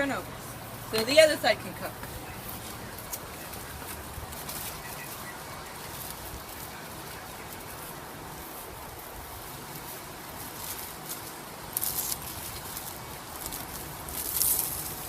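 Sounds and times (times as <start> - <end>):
campfire hissing: 0.0 - 15.0
fire crackles and clicks: 1.9 - 15.0.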